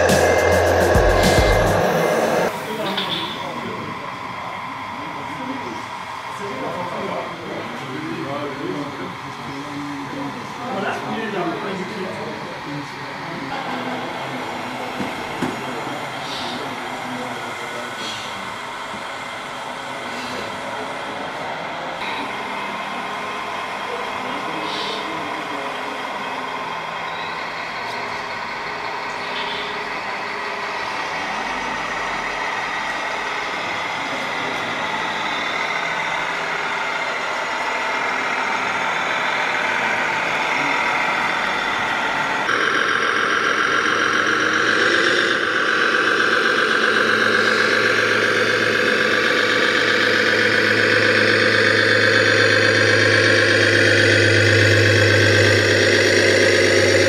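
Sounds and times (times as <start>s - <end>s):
model truck engine drone: 0.0s - 57.0s.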